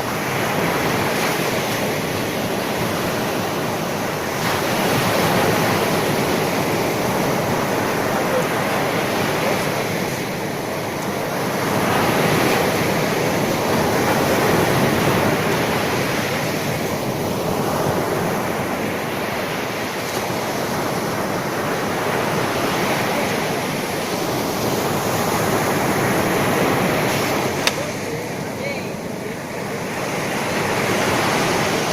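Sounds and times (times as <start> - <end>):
sea waves washing on shore: 0.0 - 31.9.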